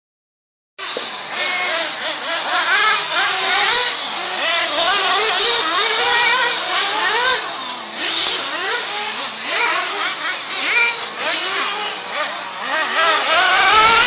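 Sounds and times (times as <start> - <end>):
rc car motors whining: 0.8 - 14.0.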